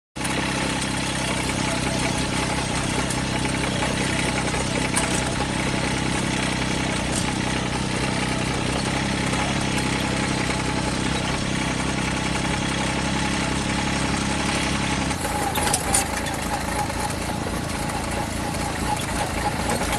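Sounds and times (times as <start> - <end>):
tractor diesel engine running: 0.2 - 19.9.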